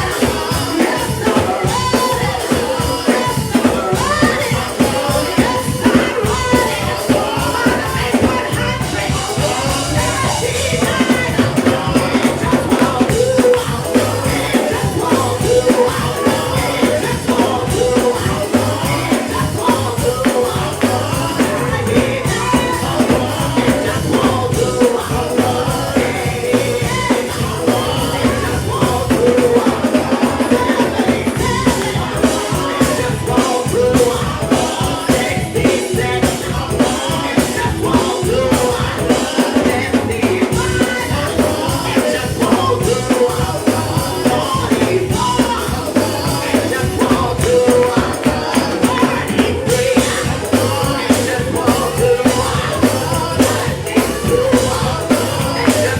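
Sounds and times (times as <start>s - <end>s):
drum kit: 0.0s - 55.9s
people singing: 0.0s - 55.9s
tambourine: 0.0s - 55.9s.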